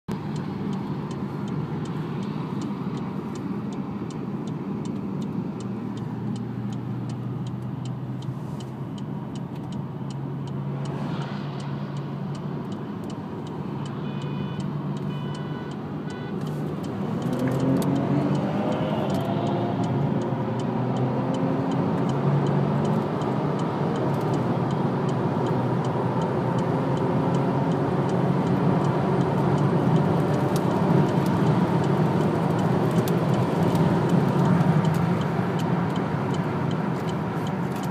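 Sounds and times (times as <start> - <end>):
car engine: 0.1 - 37.9.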